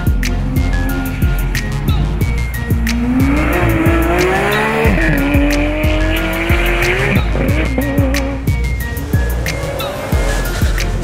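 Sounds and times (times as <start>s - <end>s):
car engine accelerating: 0.0s - 11.0s
music with steady beat: 0.0s - 11.0s.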